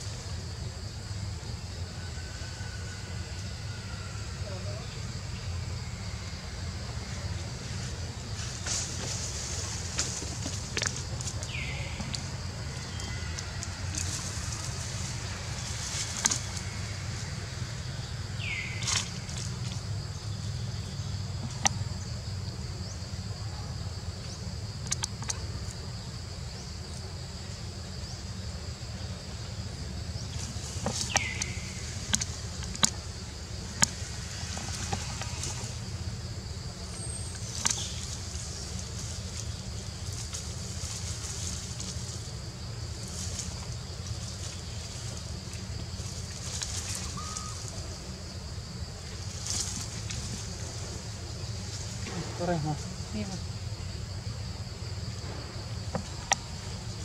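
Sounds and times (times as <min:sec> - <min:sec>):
low wind rumble: 0:00.0 - 0:57.0.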